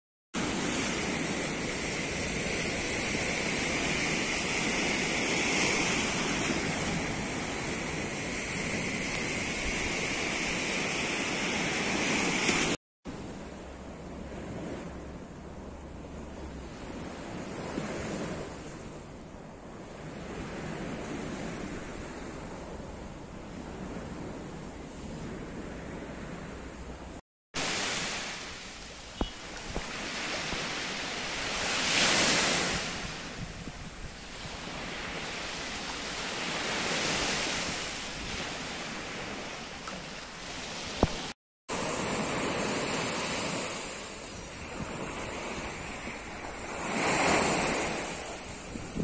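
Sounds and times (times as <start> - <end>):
small waves breaking on beach: 0.4 - 15.1, 23.5 - 49.0
wind on microphone: 0.4 - 49.0.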